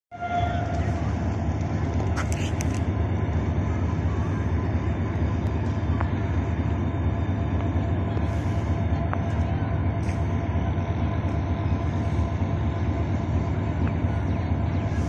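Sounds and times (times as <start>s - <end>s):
diesel locomotive engine rumble: 0.1s - 15.0s.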